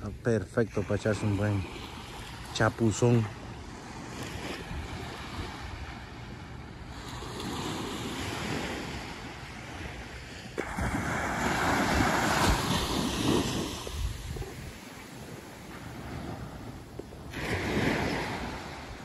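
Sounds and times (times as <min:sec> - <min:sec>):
small waves breaking on beach: 0:00.0 - 0:19.0
wind rumbling on microphone: 0:00.0 - 0:19.0.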